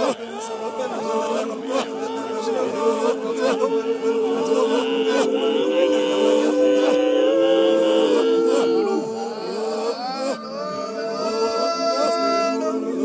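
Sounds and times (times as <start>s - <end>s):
a cappella voices singing: 0.0s - 10.6s.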